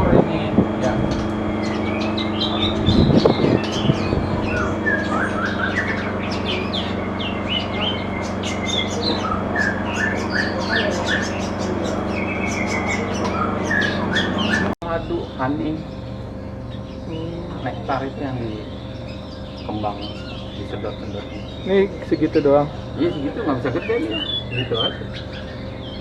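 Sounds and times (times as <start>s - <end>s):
low hum: 0.0s - 26.0s
songbirds chirping: 0.1s - 26.0s.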